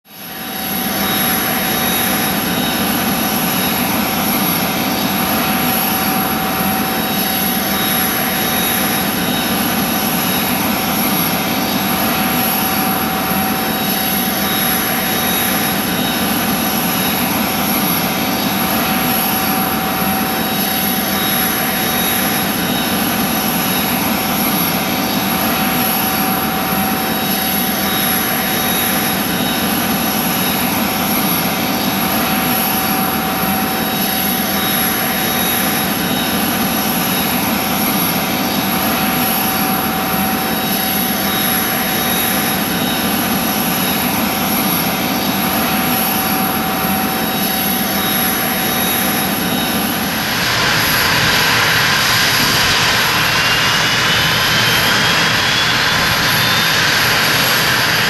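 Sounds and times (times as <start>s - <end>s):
jet turbine idling: 0.1s - 58.0s.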